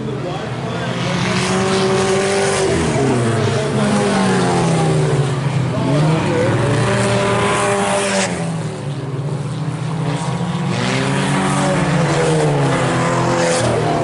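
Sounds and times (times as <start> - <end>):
race car engines racing: 0.0 - 14.0.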